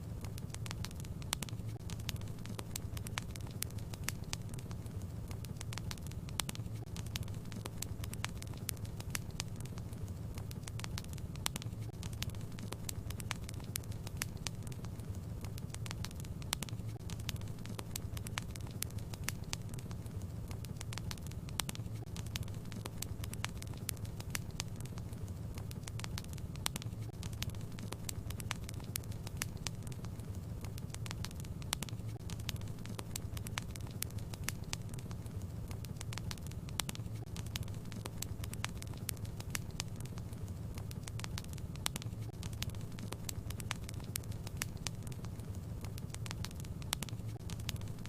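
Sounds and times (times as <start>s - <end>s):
fireplace fire crackling: 0.0s - 48.0s.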